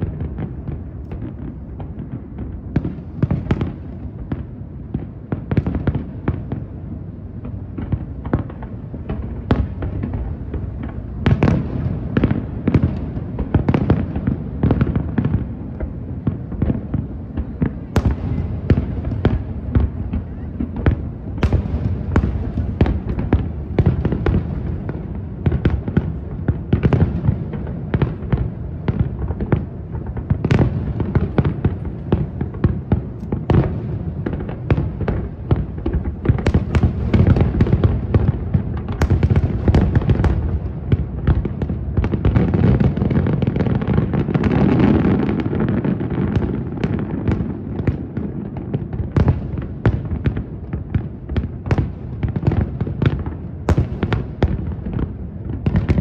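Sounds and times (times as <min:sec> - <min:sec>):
firework bursts and booms: 0:00.0 - 0:56.0.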